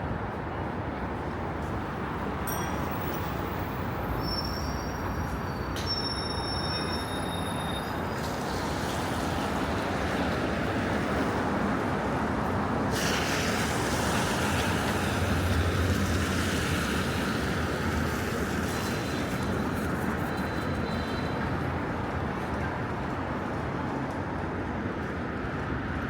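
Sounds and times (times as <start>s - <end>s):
metro train rumbling: 0.0s - 26.0s.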